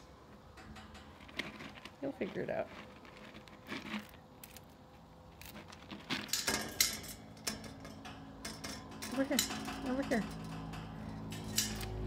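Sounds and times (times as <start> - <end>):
metal pet cage rattling: 0.5 - 4.0, 5.5 - 12.0.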